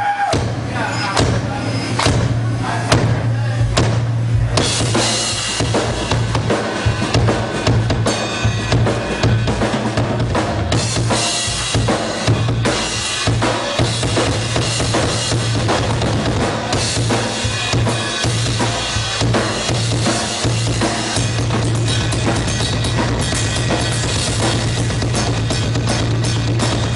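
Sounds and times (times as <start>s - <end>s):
rock drum solo: 0.0s - 26.9s.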